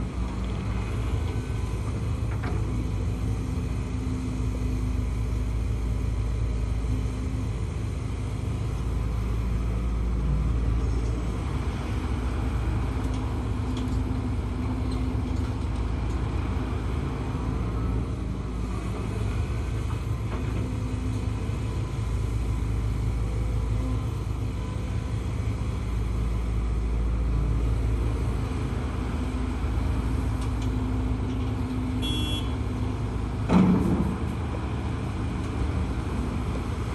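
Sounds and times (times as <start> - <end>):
excavator engine rumbling: 0.0 - 36.9.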